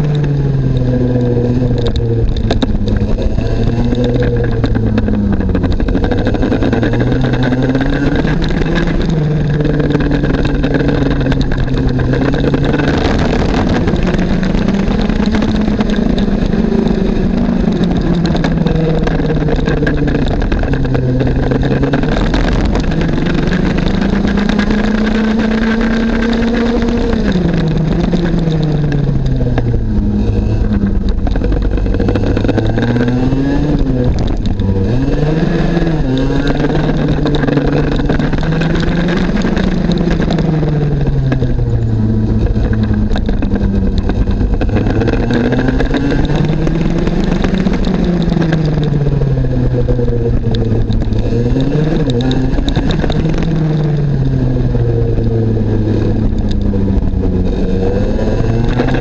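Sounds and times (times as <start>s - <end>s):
kart engine revving: 0.0s - 59.0s
wind rushing over microphone: 0.0s - 59.0s.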